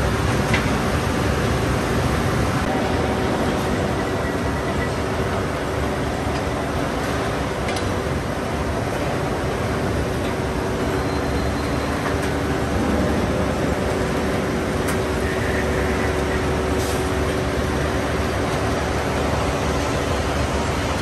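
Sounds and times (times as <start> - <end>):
rolling mill mechanical din: 0.0 - 21.0.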